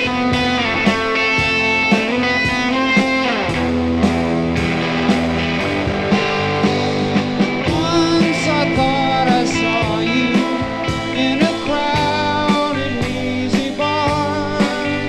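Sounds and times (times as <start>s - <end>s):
electric rock music: 0.0s - 15.0s
lead electric guitar bending notes: 0.0s - 15.0s.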